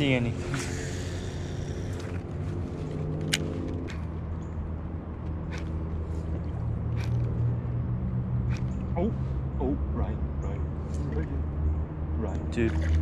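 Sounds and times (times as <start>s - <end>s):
distant engine hum: 0.0s - 13.0s.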